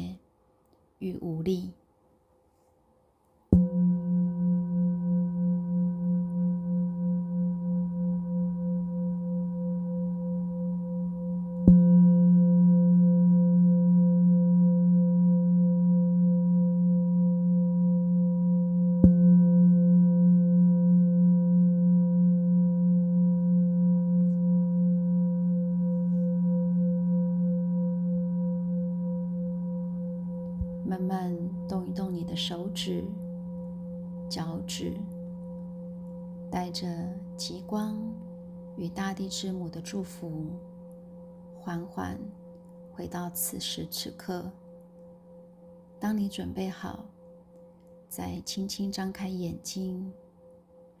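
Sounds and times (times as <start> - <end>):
singing bowl ringing: 3.6 - 51.0.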